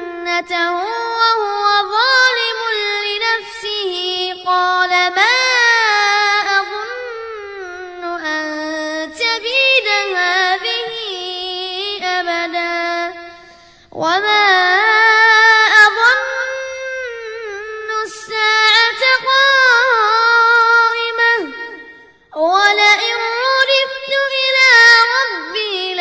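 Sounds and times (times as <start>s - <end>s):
child chanting melodically: 0.0s - 26.0s.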